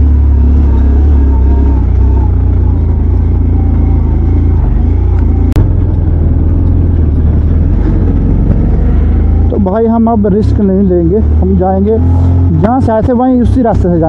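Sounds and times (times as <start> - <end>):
motorcycle engine under load: 0.0 - 14.0.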